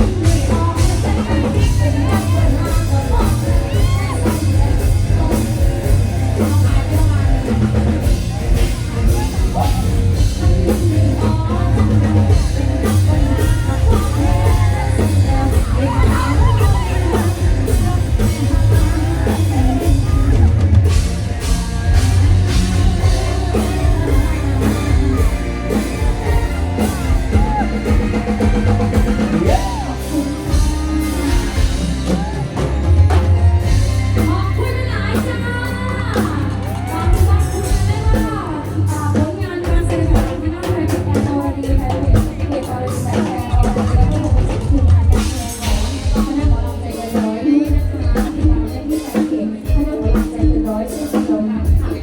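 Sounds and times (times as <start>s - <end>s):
live band music: 0.0s - 52.0s
person singing: 0.0s - 52.0s.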